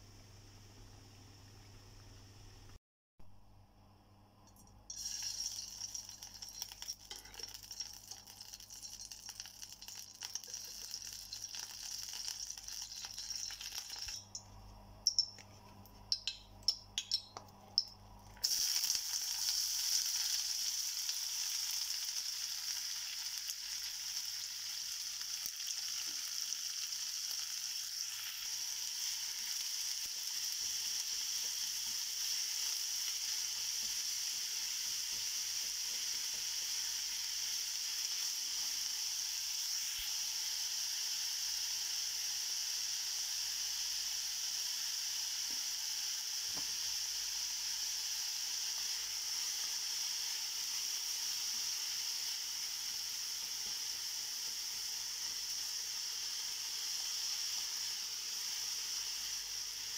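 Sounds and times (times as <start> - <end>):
ghee sizzling in a pan: 4.5 - 59.9
onions frying: 4.9 - 59.9.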